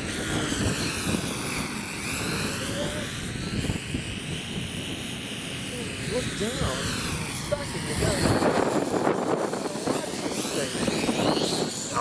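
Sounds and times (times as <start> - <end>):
drone propellers whining: 0.0 - 12.0
wind rumble on microphone: 0.0 - 12.0.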